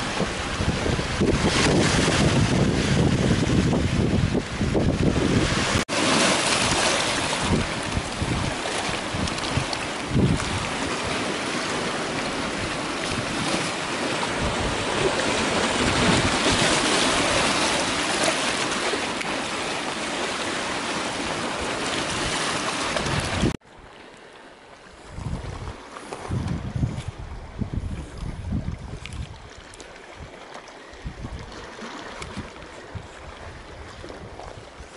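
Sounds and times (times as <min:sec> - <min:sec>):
wind rumbling on microphone: 0:00.0 - 0:18.7, 0:21.5 - 0:23.6, 0:25.0 - 0:34.9
sea water washing over rocks: 0:00.0 - 0:23.6, 0:27.5 - 0:34.9.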